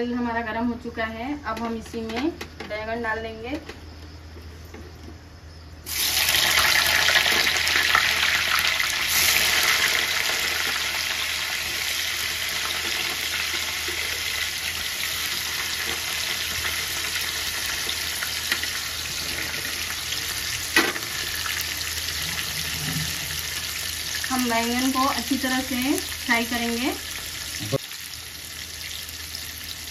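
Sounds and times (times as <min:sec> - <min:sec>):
vegetables sizzling in hot oil: 0:05.9 - 0:29.9.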